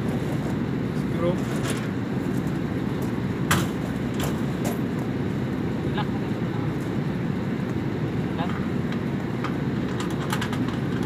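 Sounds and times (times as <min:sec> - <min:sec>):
hvac equipment rumbling: 0:00.0 - 0:11.0.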